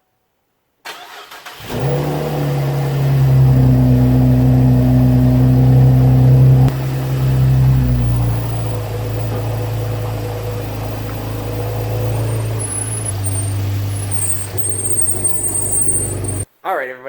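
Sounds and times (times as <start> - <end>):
car engine starting and idling: 0.9 - 16.5.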